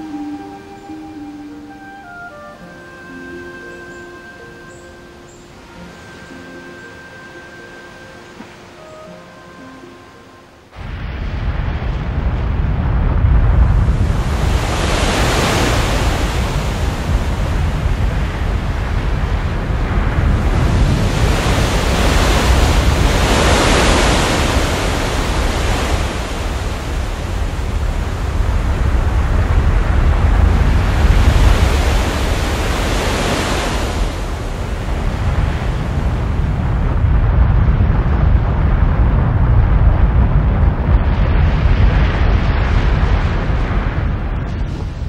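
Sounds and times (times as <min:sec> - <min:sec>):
breaking waves: 0:00.0 - 0:45.0
wind: 0:00.0 - 0:45.0.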